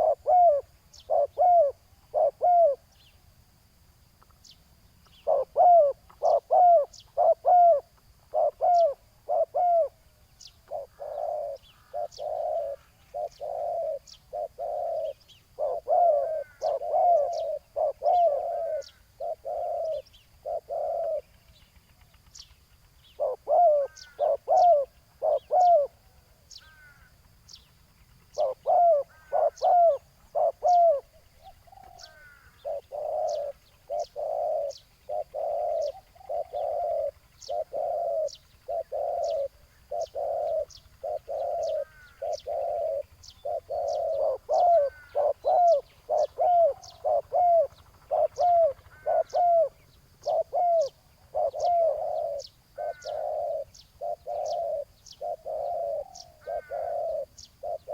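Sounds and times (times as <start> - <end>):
doves cooing: 0.0 - 3.0, 5.1 - 57.9
small bird chirping: 0.0 - 3.4, 4.2 - 57.9.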